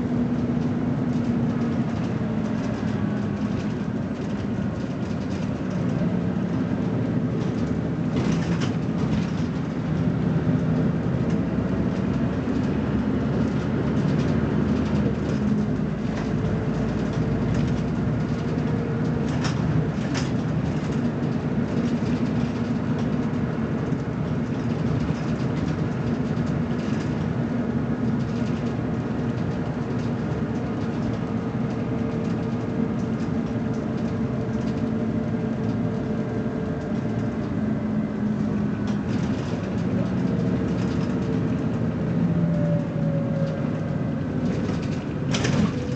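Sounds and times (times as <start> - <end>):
bus diesel engine droning: 0.0 - 45.9.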